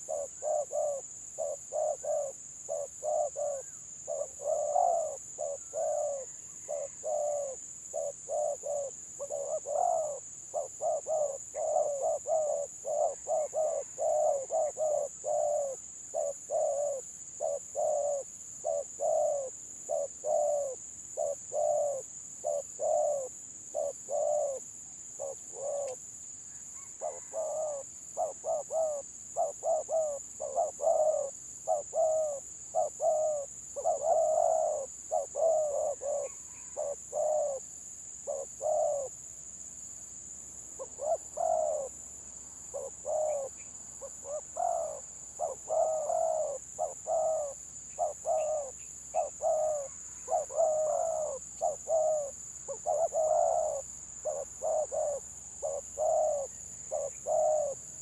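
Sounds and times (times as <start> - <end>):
doves cooing: 0.0 - 26.0, 26.8 - 39.2, 40.8 - 42.0, 42.7 - 57.8.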